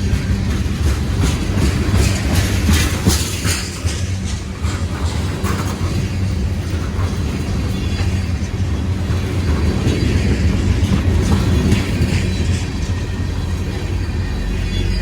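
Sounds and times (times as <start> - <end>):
wheels clicking over rail joints: 0.0 - 14.4
freight train rumbling past: 0.0 - 15.0.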